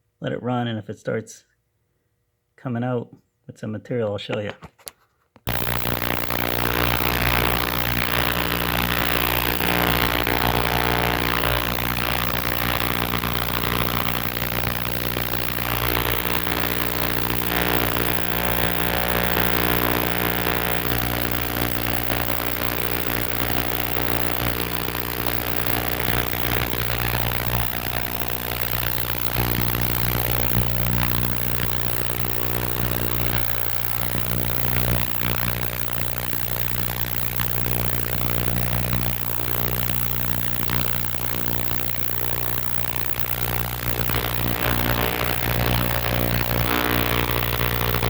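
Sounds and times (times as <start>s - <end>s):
ultrasonic cleaner humming and hissing: 5.5s - 48.0s.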